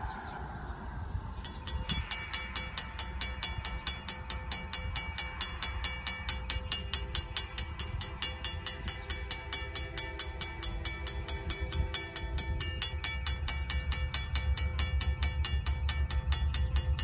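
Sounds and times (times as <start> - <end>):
mechanical crossing bell ringing: 1.5 - 17.0.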